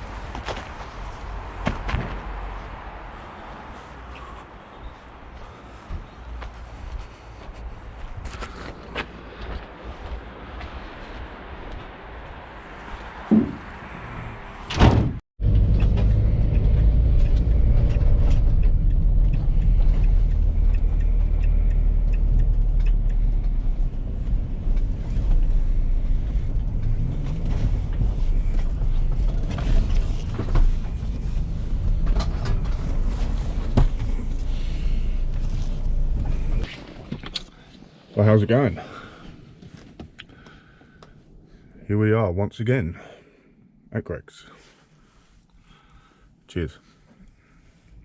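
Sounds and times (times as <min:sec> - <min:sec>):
van engine and road noise: 0:00.0 - 0:42.0.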